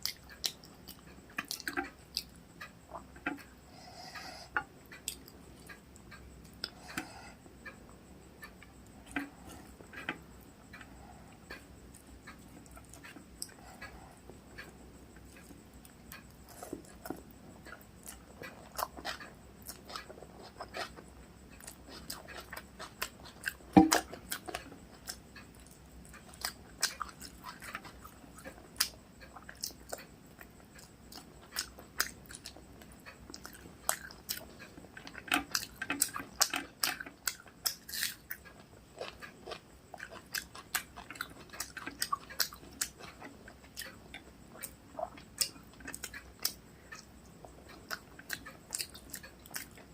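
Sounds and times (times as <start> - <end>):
close-up chewing: 0.0 - 49.9.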